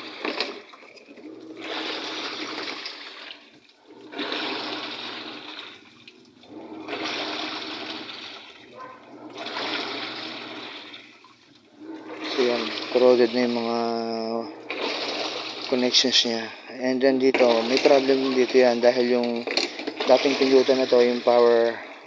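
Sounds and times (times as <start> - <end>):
washing machine water churning: 0.0 - 22.0.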